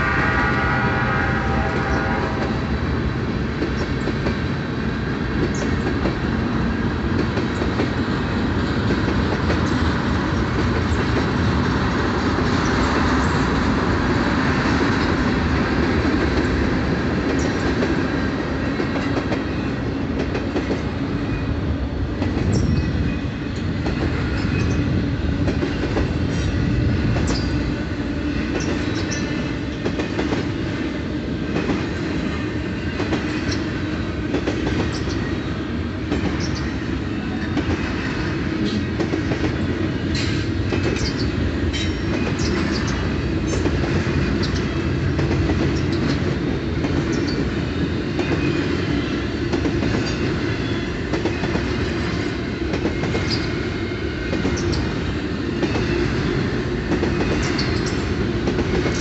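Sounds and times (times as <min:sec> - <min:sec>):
train wheels rumbling on rail: 0:00.0 - 0:59.0
clickety-clack over rail joints: 0:03.3 - 0:59.0.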